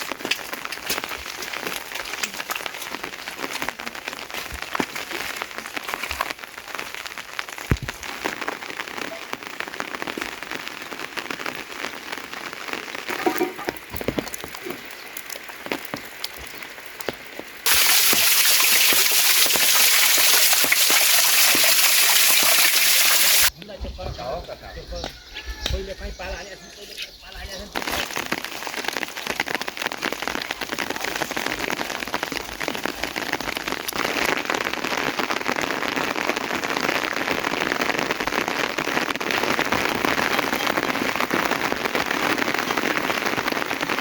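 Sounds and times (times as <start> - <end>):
heavy rain rushing: 0.0 - 23.5, 27.7 - 44.0
rain pattering on surfaces: 0.0 - 23.6, 27.4 - 44.0.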